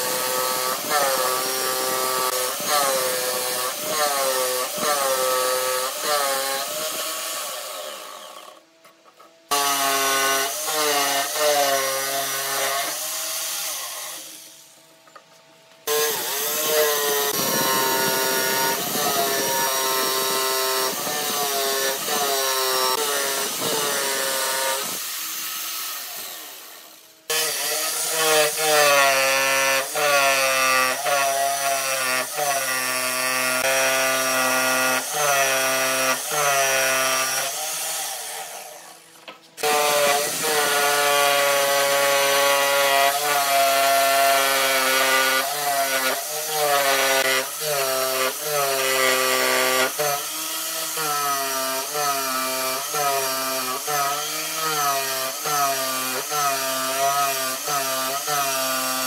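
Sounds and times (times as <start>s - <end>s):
jigsaw cutting wood: 0.0s - 8.7s, 9.5s - 14.8s, 15.8s - 59.0s.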